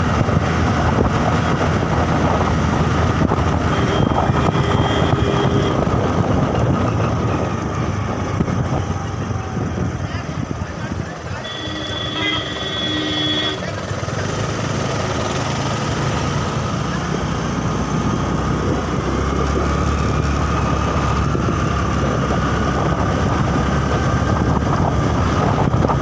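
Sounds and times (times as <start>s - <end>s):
vehicle engine with road noise: 0.0s - 26.0s.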